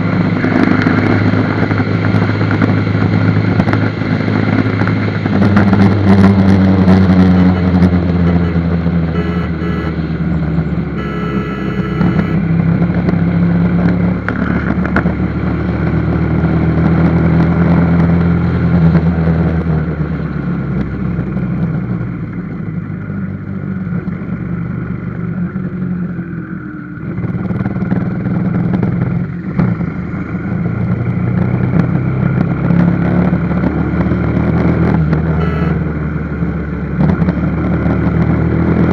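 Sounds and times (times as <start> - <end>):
motorcycle engine running: 0.0 - 19.4, 20.1 - 38.9.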